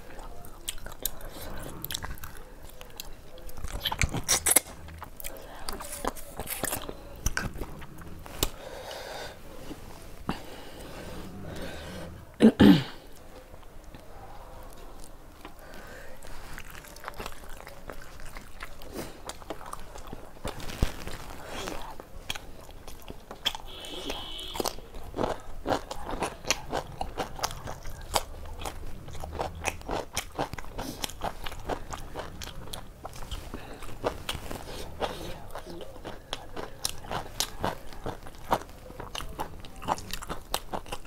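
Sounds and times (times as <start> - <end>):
crunchy chewing: 0.0 - 12.4, 13.0 - 41.0.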